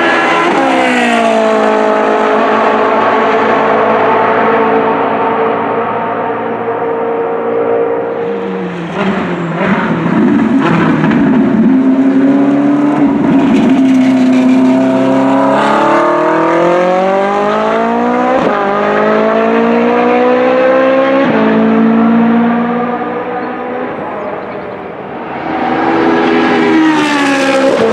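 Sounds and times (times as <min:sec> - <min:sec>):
race car engine revving: 0:00.0 - 0:27.9.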